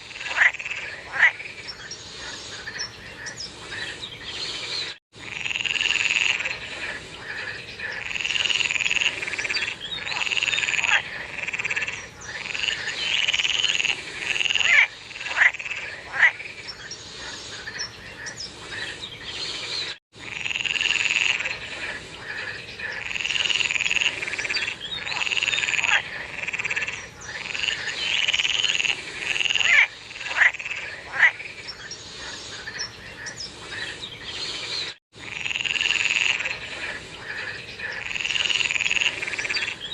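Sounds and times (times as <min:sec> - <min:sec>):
frogs croaking: 0:00.0 - 0:04.6, 0:05.2 - 0:19.6, 0:20.2 - 0:39.9.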